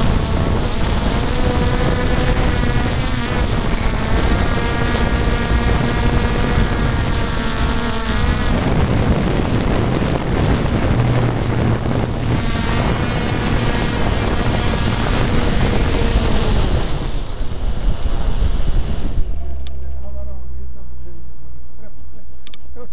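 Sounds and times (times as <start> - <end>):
drone motors whirring: 0.0 - 20.2
rushing air: 0.0 - 21.1.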